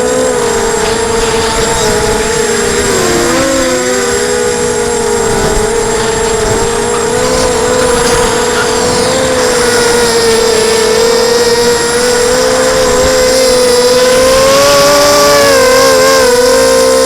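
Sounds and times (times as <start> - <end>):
quadcopter motors whining: 0.0 - 17.0
wind buffeting: 0.0 - 17.0.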